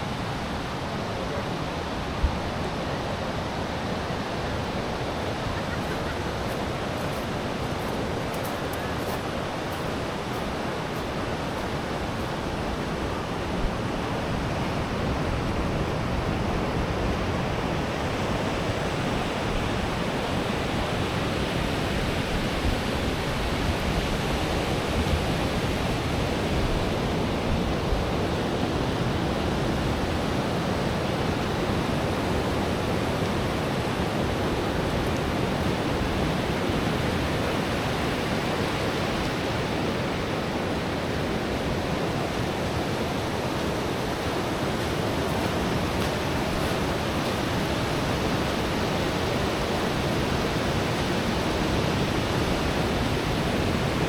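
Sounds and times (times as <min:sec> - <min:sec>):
surf breaking on sand beach: 0:00.0 - 0:54.0.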